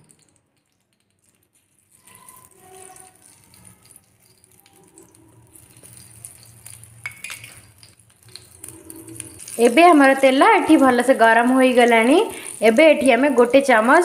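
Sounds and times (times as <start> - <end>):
oil hissing and crackling: 0.0 - 14.0.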